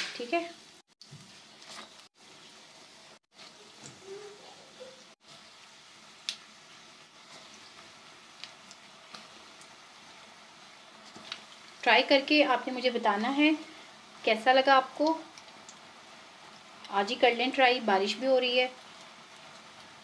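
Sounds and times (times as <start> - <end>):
potatoes sizzling in hot fat: 0.0 - 20.0.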